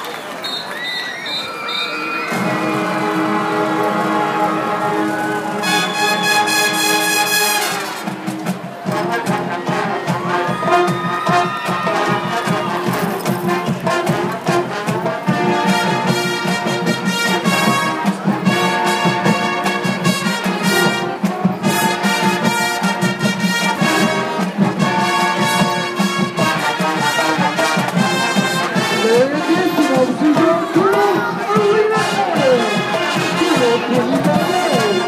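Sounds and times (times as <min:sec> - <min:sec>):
brass horns holding chords: 0:02.3 - 0:08.2, 0:11.9 - 0:35.0.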